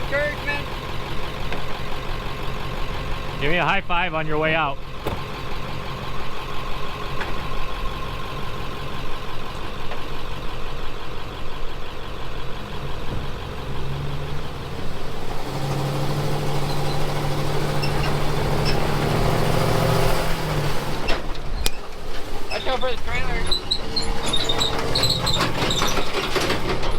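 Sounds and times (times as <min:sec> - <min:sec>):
vehicle engine idling: 0:00.0 - 0:26.9.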